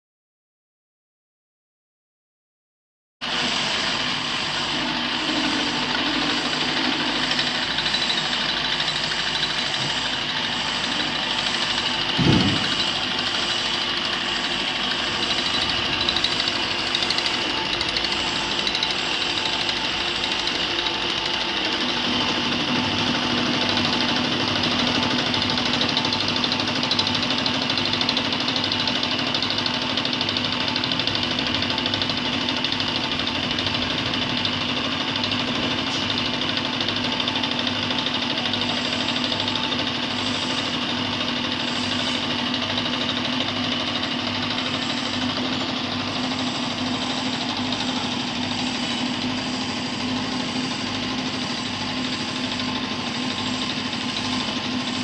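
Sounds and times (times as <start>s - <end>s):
milling machine cutting metal: 3.2s - 55.0s.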